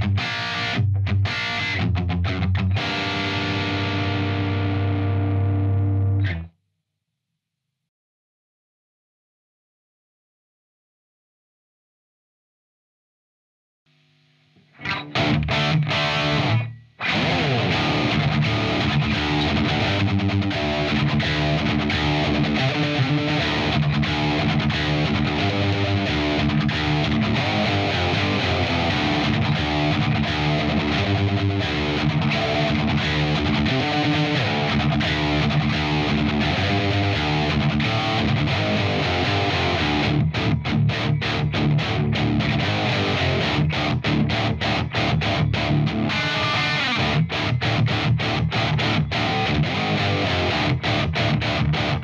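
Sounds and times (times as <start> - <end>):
distorted electric guitar riffing: 0.0 - 6.5, 14.6 - 52.0.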